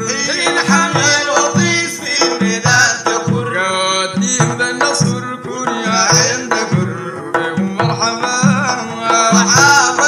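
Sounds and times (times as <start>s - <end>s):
frame drums beating: 0.0s - 10.0s
men singing: 0.0s - 10.0s.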